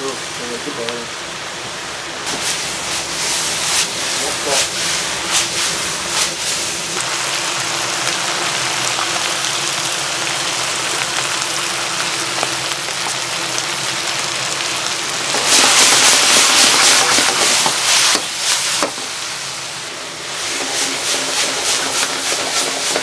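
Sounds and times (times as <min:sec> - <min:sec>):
beef sizzling in a hot pan: 0:02.2 - 0:23.0.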